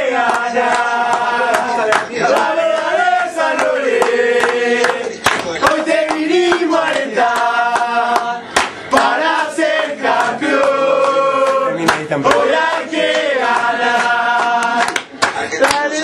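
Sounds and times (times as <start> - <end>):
crowd chanting in unison: 0.0 - 16.0
hand claps: 0.2 - 16.0.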